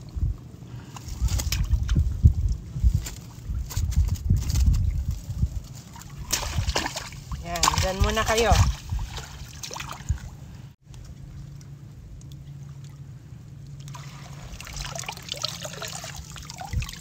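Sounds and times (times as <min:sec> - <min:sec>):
seawater trickling and splashing: 0:00.8 - 0:10.8, 0:12.2 - 0:17.0.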